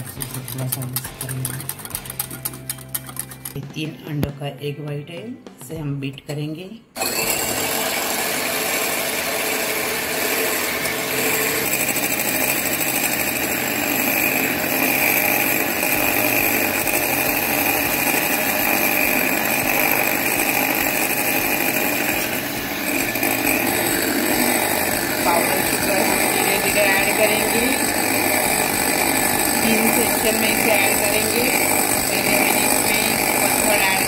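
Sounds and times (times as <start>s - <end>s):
electric hand mixer whisking: 0.0s - 3.7s, 7.0s - 34.0s.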